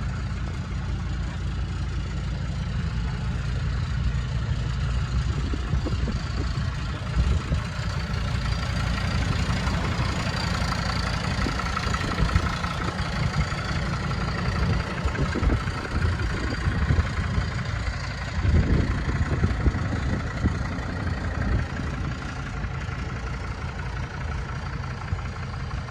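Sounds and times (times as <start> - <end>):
engine rumble: 0.0 - 25.9.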